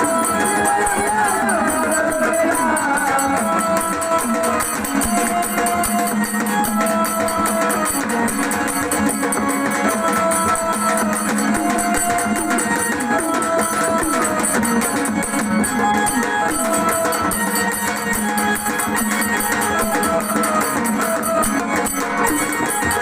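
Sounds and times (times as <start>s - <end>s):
percussion beat: 0.0s - 23.0s.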